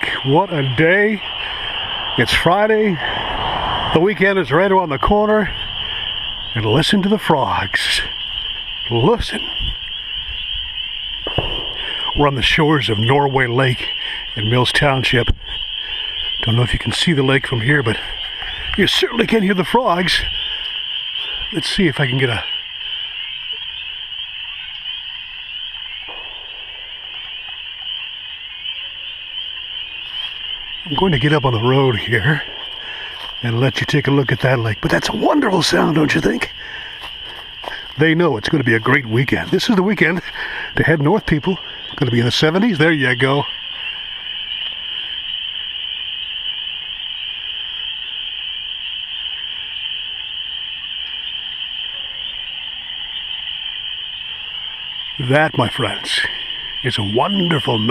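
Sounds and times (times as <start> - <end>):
chorus of frogs calling: 0.0 - 57.9.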